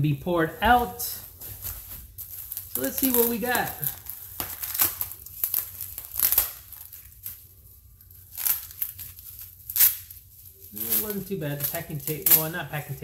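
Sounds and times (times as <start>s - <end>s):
bubble wrap crinkling: 0.6s - 13.0s.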